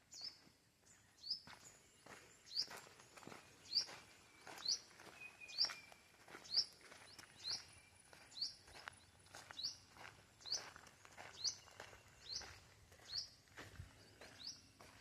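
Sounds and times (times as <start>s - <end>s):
bird chirping: 0.0s - 15.0s
footsteps on forest floor: 0.0s - 15.0s.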